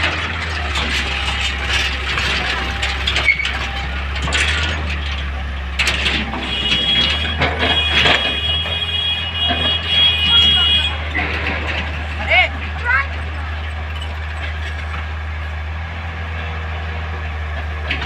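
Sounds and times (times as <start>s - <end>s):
clanks knocks and scraping: 0.0s - 15.5s, 17.2s - 18.0s
excavator diesel engine running: 0.0s - 18.0s.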